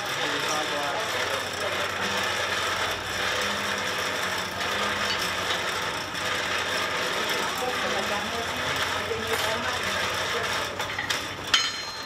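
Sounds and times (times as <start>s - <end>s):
forge blower rushing: 0.0s - 12.0s.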